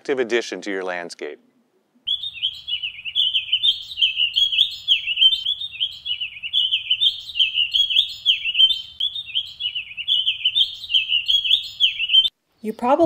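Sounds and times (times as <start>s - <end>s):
songbird singing: 1.5s - 13.0s.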